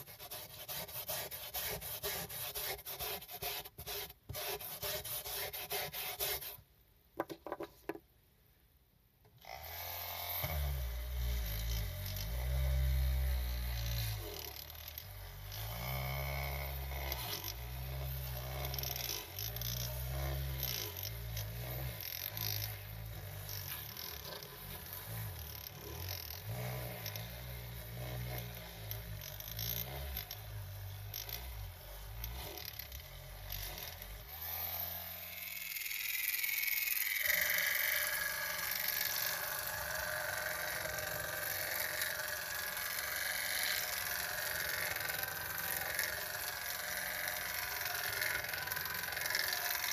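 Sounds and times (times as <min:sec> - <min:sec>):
small electric motor whining: 0:09.4 - 0:49.9.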